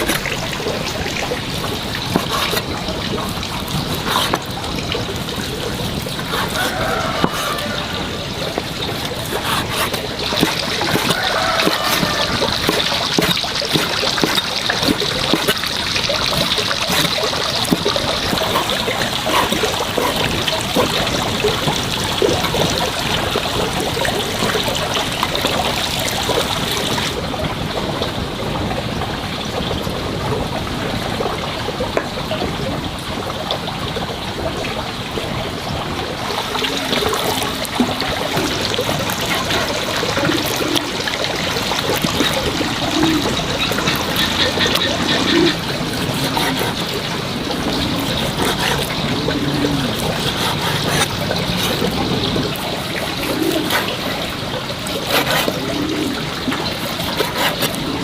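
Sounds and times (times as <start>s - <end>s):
small splashes and clicks: 0.0s - 58.0s
water running and trickling: 0.0s - 58.0s.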